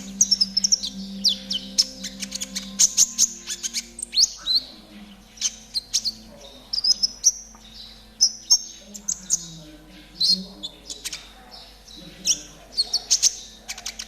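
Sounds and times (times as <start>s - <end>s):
bird singing high rapid chirps: 0.0s - 14.0s.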